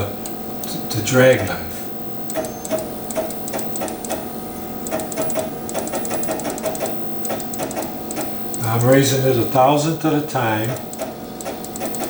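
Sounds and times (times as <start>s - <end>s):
machine humming: 0.0s - 12.0s
stepper motor ticking: 0.0s - 12.0s.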